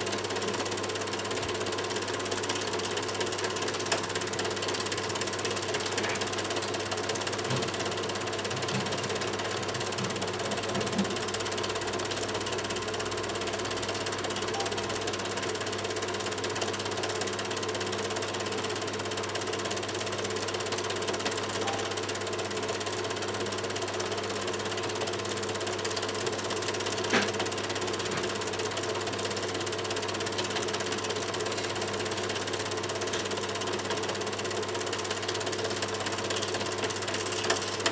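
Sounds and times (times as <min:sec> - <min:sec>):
film projector whirring: 0:00.0 - 0:37.9.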